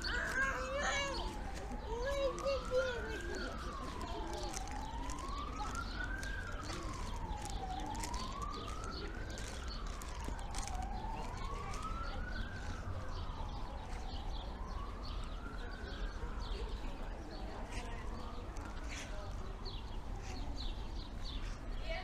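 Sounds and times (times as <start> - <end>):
emergency vehicle siren wailing: 0.0 - 21.6.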